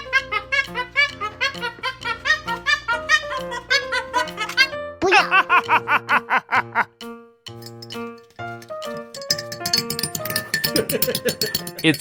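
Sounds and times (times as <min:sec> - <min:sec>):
bouncy plucked music: 0:00.0 - 0:12.0.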